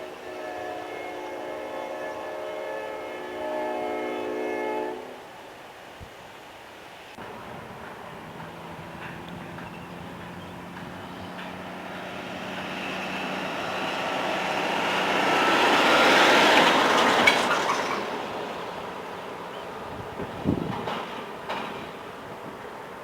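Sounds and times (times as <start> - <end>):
train wheel and rail noise: 0.0 - 23.0.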